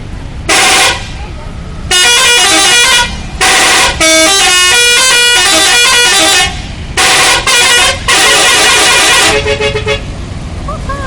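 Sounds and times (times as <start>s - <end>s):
musical bus horn: 0.5s - 1.3s, 1.9s - 10.2s.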